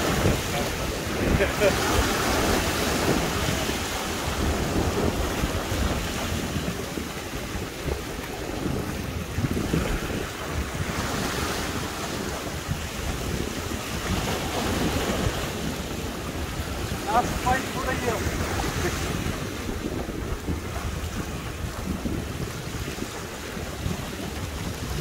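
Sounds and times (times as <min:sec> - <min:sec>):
waves breaking over rocks: 0:00.0 - 0:25.0
wind buffeting microphone: 0:00.0 - 0:25.0.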